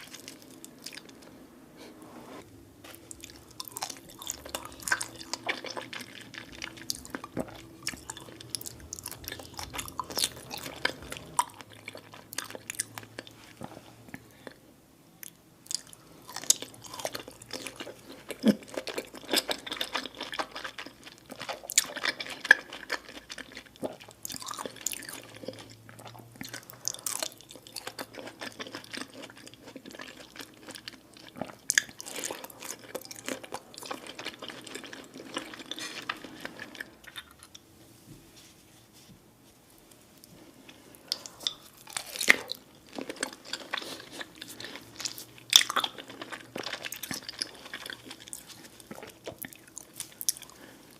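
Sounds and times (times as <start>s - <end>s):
person chewing food: 0.0s - 1.4s, 2.8s - 14.6s, 15.2s - 37.7s, 39.9s - 50.9s.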